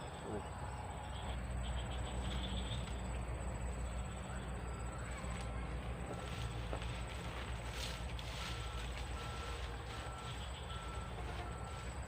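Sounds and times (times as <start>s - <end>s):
insect or bird chirps: 0.0s - 12.0s
low constant rumble: 0.0s - 12.0s.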